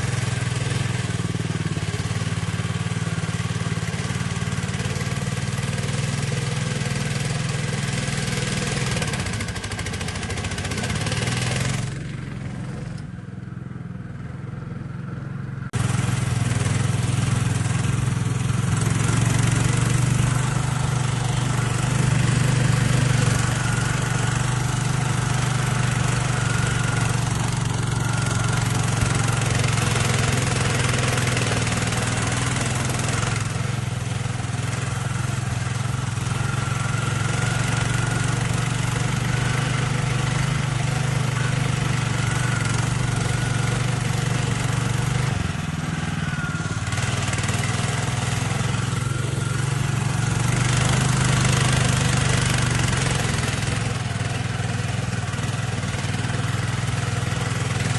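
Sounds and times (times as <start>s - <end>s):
vehicle engine droning: 0.0s - 57.9s.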